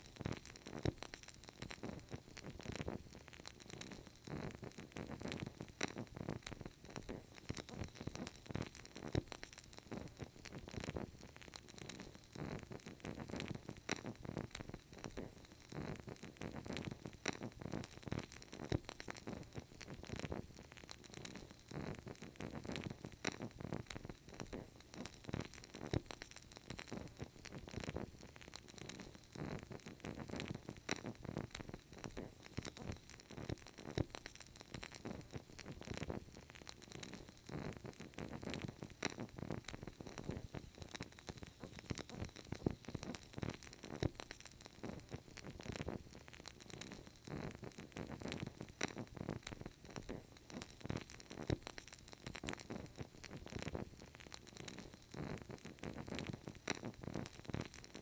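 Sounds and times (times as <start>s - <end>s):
candle flame crackling: 0.0s - 58.0s.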